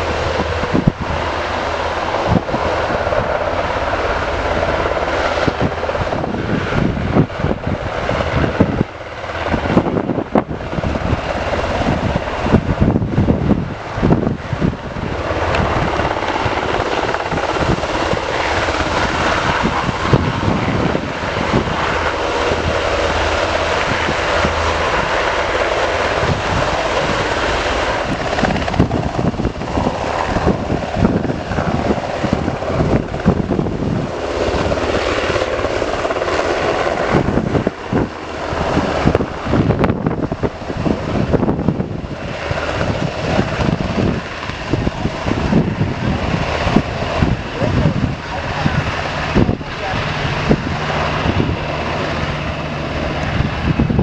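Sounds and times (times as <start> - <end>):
helicopter running: 0.0 - 54.0.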